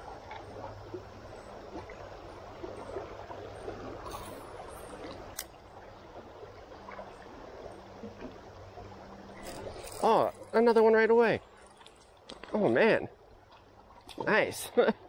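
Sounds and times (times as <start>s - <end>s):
river water rippling: 0.0s - 15.0s.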